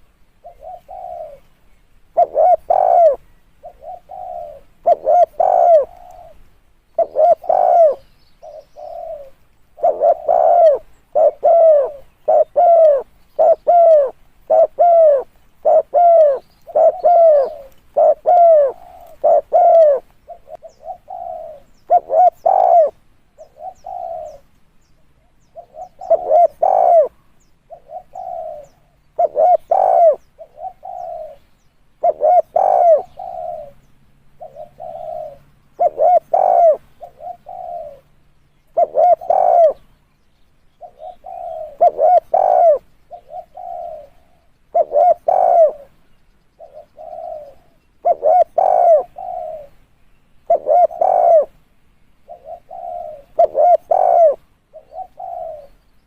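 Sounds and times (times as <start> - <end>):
dove cooing: 0.0 - 1.5, 2.1 - 39.9, 40.8 - 49.8, 50.4 - 51.6, 52.2 - 55.8.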